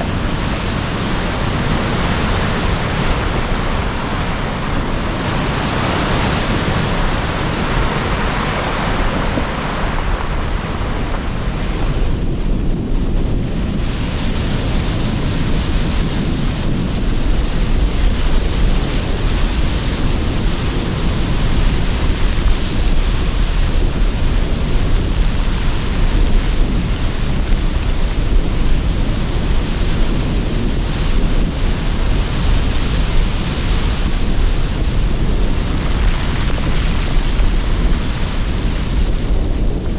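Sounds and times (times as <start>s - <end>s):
surf breaking and washing in: 0.0s - 39.9s
wind buffeting microphone: 0.0s - 39.9s.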